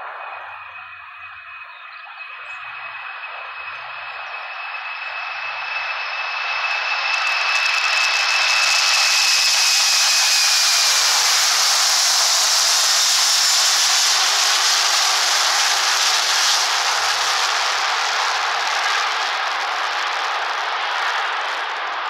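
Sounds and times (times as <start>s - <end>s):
jet engine high whine: 0.0s - 22.0s
jet engines roaring: 0.0s - 22.0s.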